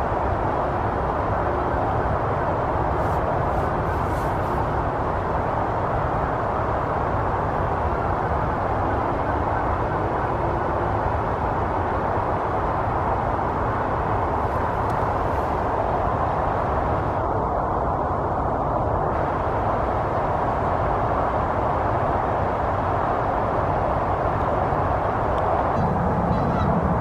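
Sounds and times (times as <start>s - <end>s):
rumbling background noise: 0.0s - 27.0s.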